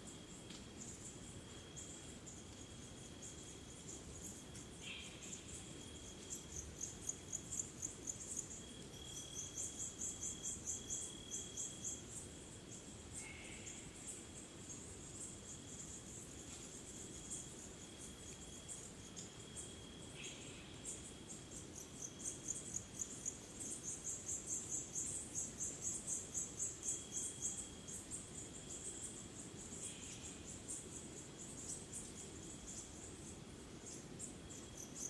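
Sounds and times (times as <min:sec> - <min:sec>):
brief insect calls: 0:00.0 - 0:35.0
crickets chirping: 0:00.0 - 0:35.0
steady high insect trill: 0:00.0 - 0:35.0.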